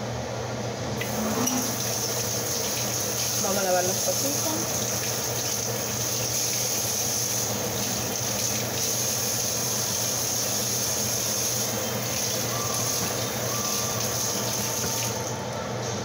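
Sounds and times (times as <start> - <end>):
water running from faucet: 1.0 - 15.4.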